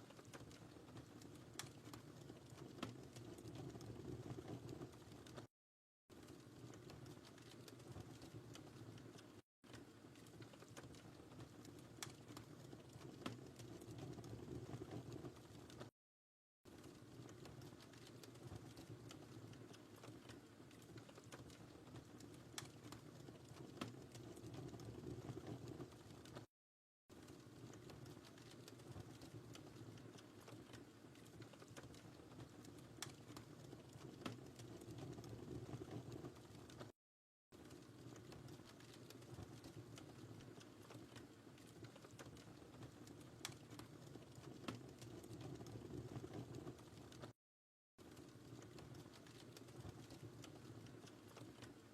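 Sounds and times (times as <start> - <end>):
fireplace fire crackling: 0.0 - 5.5, 6.1 - 15.9, 16.7 - 26.5, 27.1 - 37.0, 37.6 - 47.4, 48.0 - 51.9.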